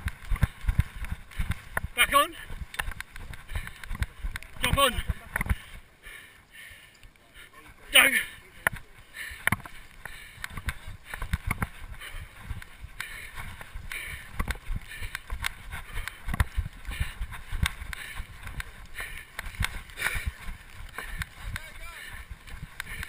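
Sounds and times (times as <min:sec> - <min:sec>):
running footsteps: 0:00.0 - 0:23.0.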